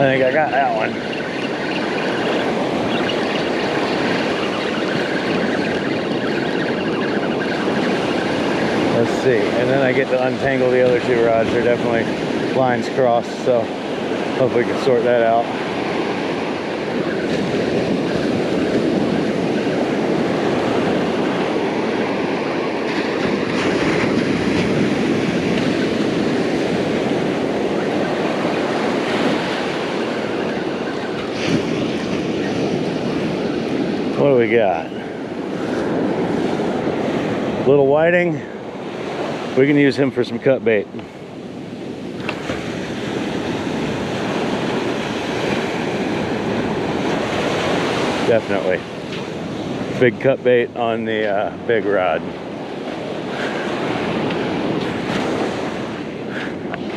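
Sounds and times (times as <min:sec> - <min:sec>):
calm surf breaking: 0:00.0 - 0:56.9.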